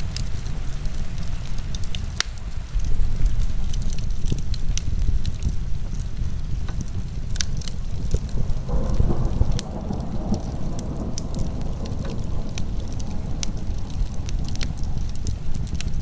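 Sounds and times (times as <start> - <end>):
heavy rain: 0.0 - 16.0
steady low rumble: 0.0 - 16.0
wood fire crackling and popping: 0.0 - 16.0.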